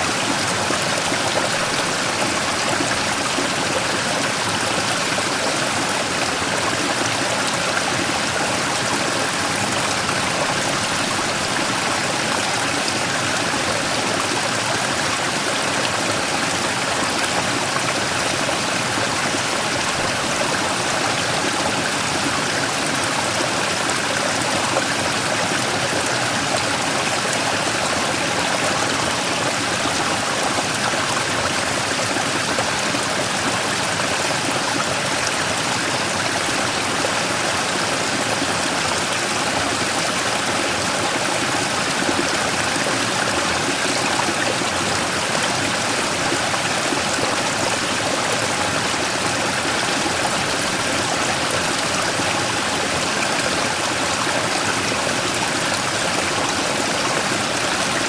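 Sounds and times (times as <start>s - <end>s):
stream rushing over rock: 0.0s - 58.0s.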